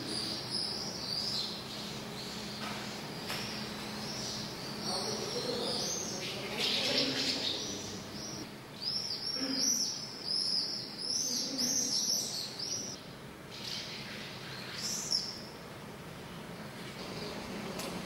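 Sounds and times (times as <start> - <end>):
small birds chirping: 0.0 - 17.5.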